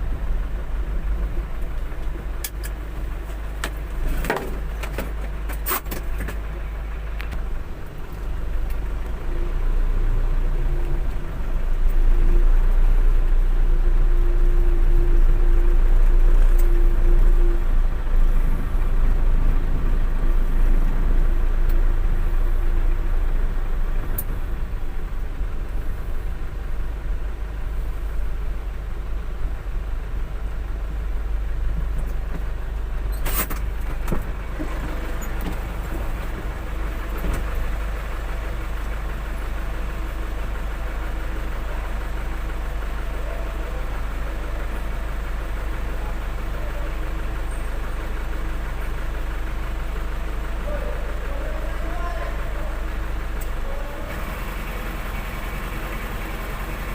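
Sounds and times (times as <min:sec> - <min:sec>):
truck engine rumbling: 0:00.0 - 0:56.9.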